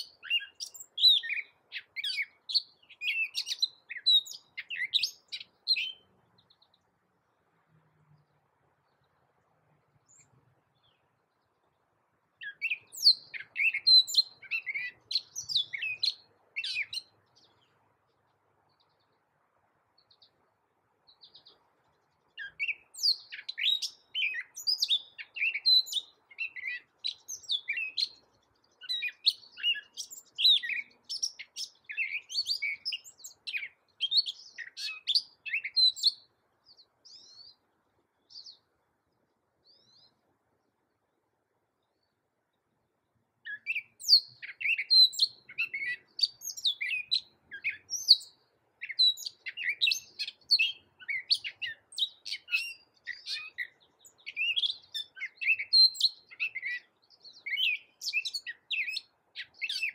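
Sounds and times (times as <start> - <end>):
bird singing rapid varied notes: 0.0 - 19.3, 21.1 - 38.8, 43.4 - 59.9.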